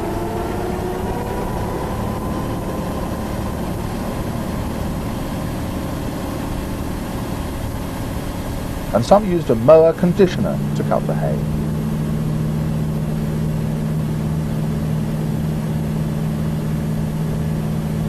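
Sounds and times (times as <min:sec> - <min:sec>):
faint whine: 0:00.0 - 0:18.0
tractor engine running: 0:00.0 - 0:18.0.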